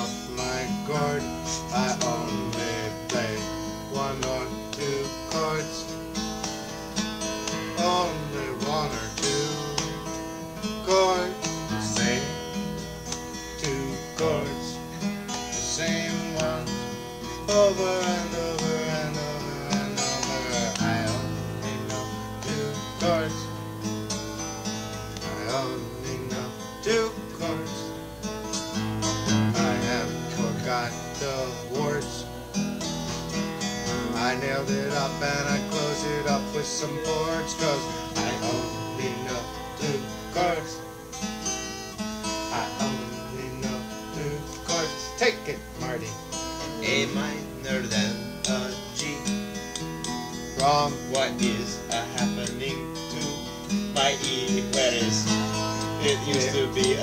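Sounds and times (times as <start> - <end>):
acoustic guitar music: 0.0 - 57.0.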